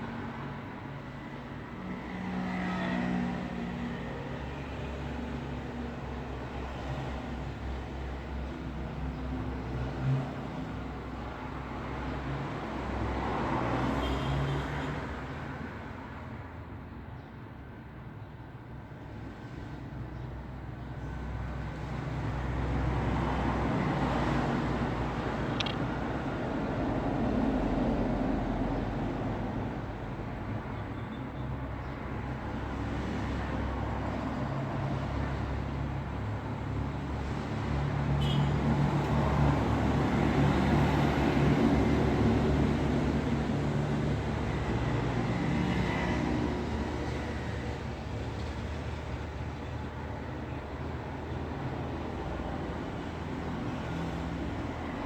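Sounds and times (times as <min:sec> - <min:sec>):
vehicles passing: 0:00.0 - 0:17.1, 0:19.1 - 0:55.0.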